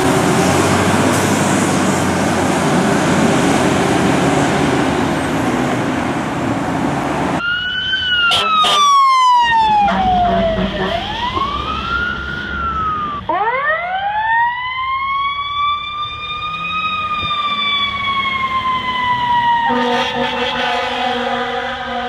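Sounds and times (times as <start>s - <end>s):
fire truck sirens wailing: 0.0s - 22.0s.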